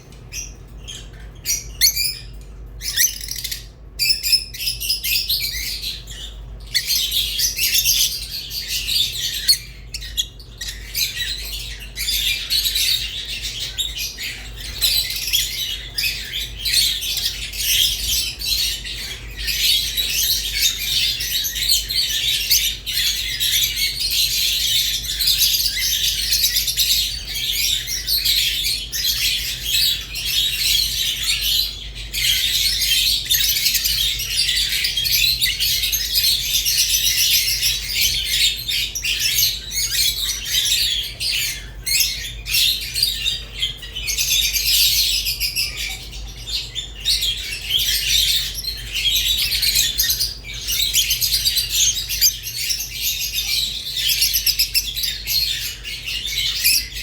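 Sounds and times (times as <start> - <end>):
lovebirds chirping and chattering: 0.0 - 57.0.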